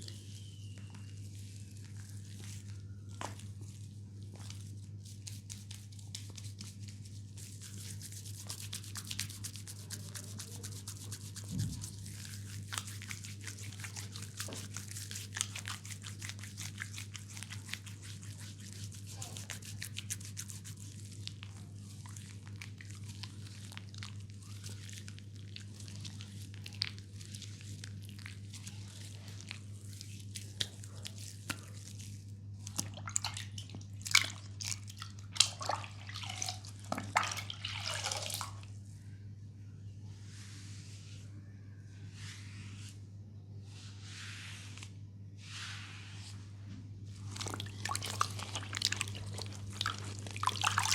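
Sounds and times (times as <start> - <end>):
scrubbing on skin: 0.0 - 38.7, 45.5 - 50.9.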